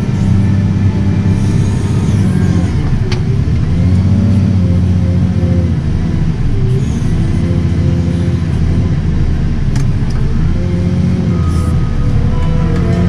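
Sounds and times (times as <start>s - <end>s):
diesel engine under load: 0.0s - 13.0s.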